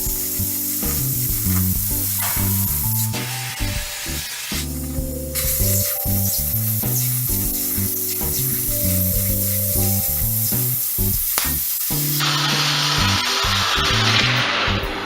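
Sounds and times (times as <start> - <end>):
welder arc hissing: 0.0 - 14.8
background music: 0.0 - 15.0.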